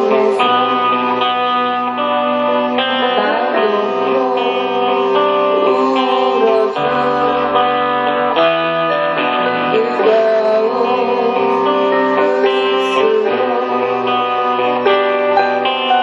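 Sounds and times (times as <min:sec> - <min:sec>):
keyboard chords and melody: 0:00.0 - 0:16.0.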